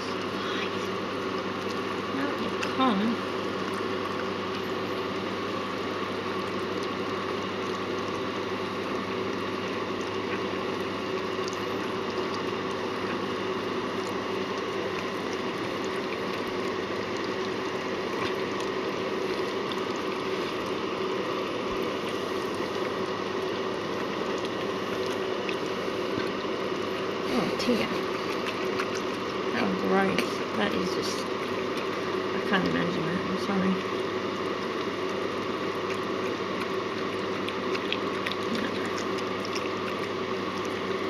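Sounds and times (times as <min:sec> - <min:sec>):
faint hum: 0:00.0 - 0:41.0.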